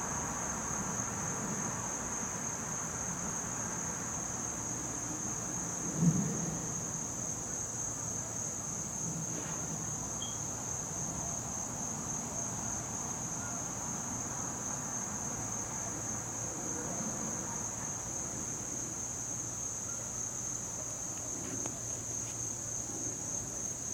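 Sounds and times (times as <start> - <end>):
crickets trilling: 0.0 - 23.9.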